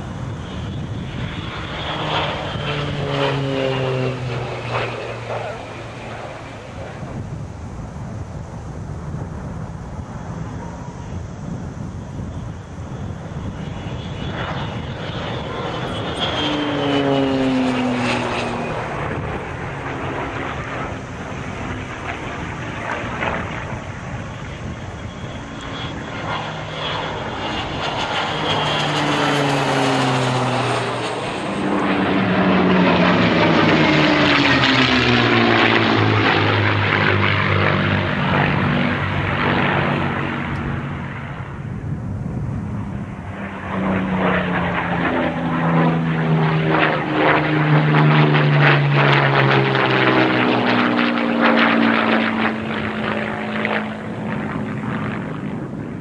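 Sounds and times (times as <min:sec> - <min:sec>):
propeller aircraft flying past: 0:00.0 - 0:56.0.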